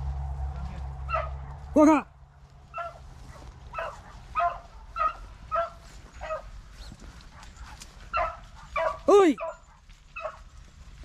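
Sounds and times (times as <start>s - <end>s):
dogs baying: 0.8s - 10.8s.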